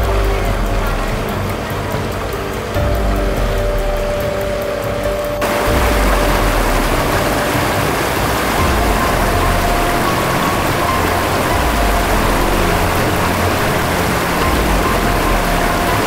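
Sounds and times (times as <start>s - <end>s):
low motor rumble: 0.0s - 16.0s
rush of pumped water: 0.0s - 16.0s.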